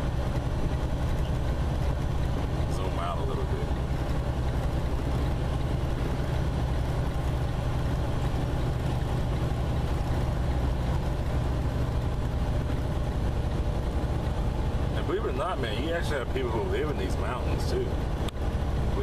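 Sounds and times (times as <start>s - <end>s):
truck engine and tyres droning: 0.0s - 19.0s.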